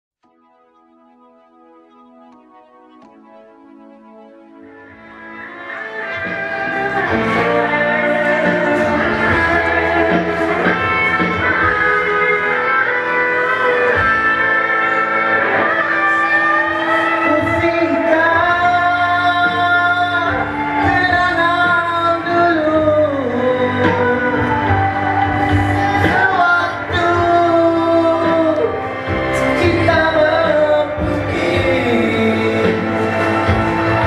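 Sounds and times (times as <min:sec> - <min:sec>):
gliding melodic lead line: 0:00.2 - 0:34.0
pop band music with guitar: 0:04.8 - 0:34.0.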